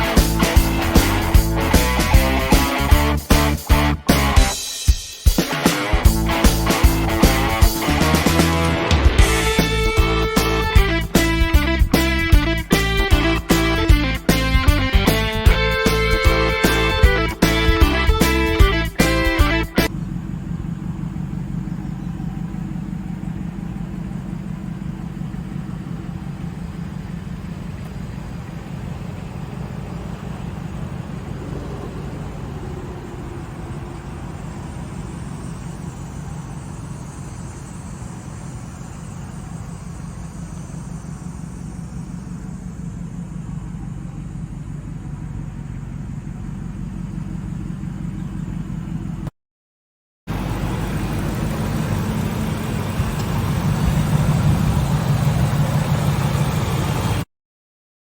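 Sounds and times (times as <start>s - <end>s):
engine idling: 0.0s - 49.3s, 50.3s - 57.3s.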